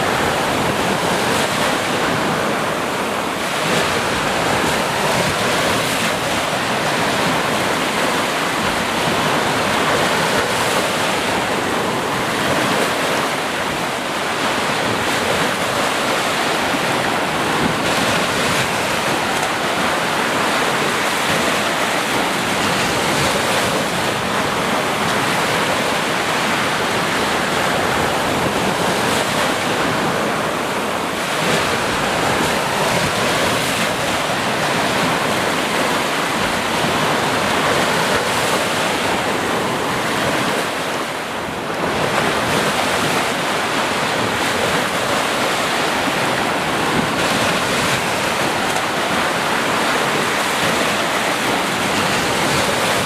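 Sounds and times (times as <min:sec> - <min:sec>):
sea waves breaking: 0:00.0 - 0:53.0.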